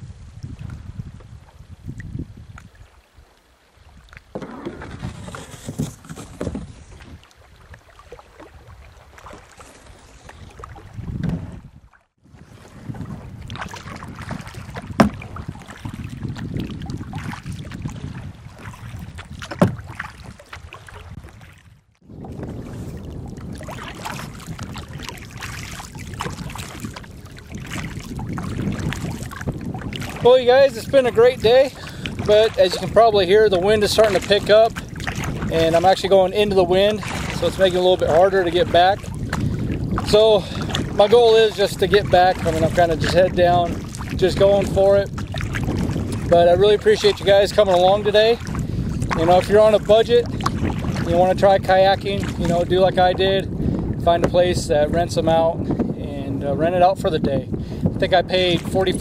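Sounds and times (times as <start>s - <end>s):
wind rumbling on microphone: 0.0s - 59.0s
paddle strokes splashing in water: 0.4s - 55.0s, 57.8s - 59.0s.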